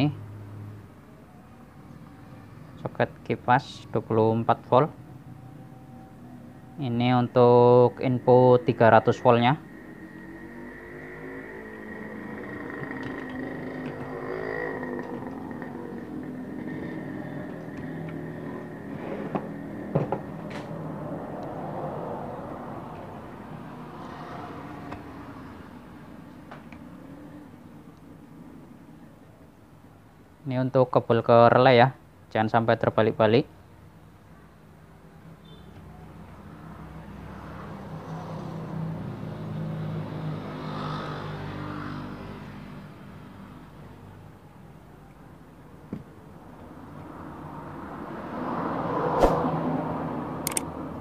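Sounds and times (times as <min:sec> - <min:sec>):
vehicle engine hum passing: 0:00.0 - 0:30.4, 0:33.8 - 0:51.0
steady background noise: 0:00.0 - 0:40.3, 0:42.9 - 0:51.0.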